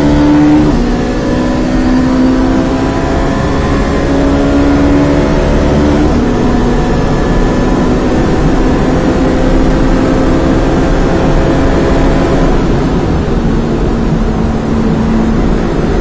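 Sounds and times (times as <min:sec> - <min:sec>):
car engine accelerating: 0:00.0 - 0:16.0
wind and road noise: 0:00.0 - 0:16.0.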